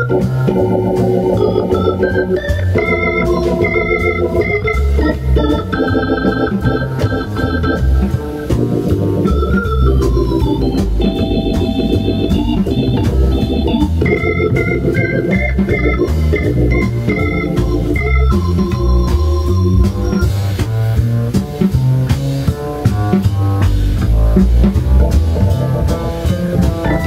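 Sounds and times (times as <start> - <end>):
bass line: 0.0 - 27.0
drums: 0.0 - 27.0
organ playing fast runs: 0.0 - 27.0.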